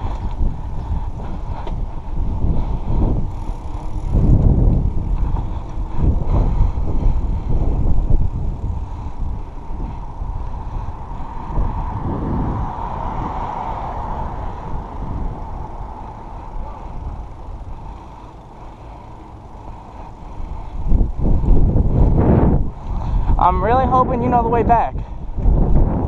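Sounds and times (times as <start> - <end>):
bicycle tyre and road noise: 0.0 - 26.0
wind buffeting microphone: 0.0 - 26.0.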